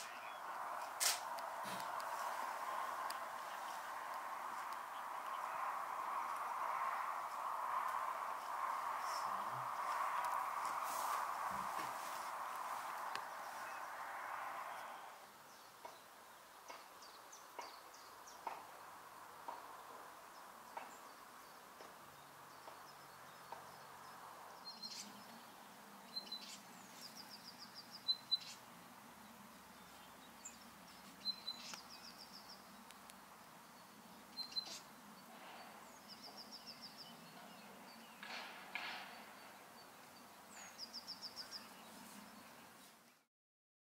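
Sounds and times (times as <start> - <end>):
songbirds chirping: 0.0 - 43.3.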